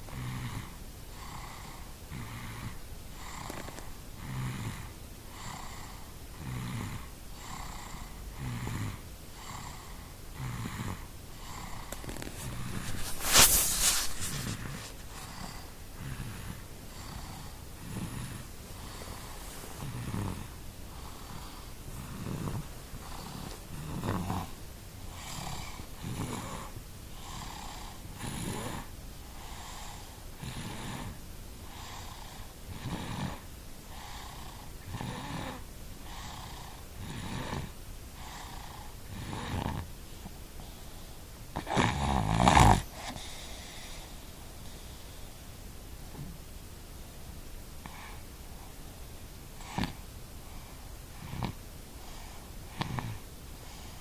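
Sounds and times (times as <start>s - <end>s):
rhythmic snoring: 0.0s - 45.3s, 49.6s - 54.0s.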